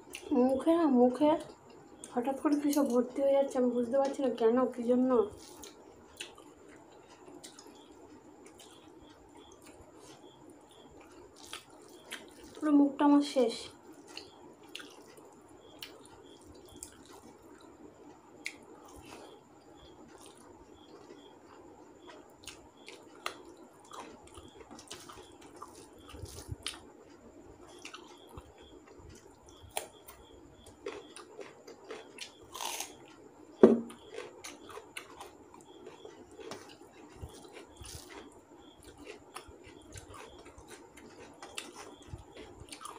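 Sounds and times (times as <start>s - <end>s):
chewing: 5.4s - 12.6s, 13.9s - 17.8s, 18.4s - 33.3s, 33.9s - 42.9s.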